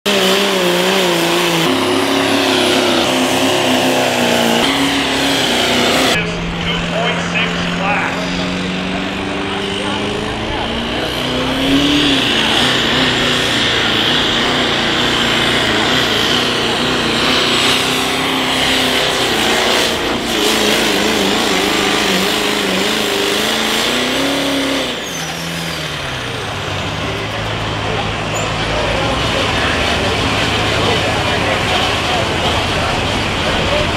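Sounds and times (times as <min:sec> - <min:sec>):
diesel truck engines at high revs: 0:00.0 - 0:33.9.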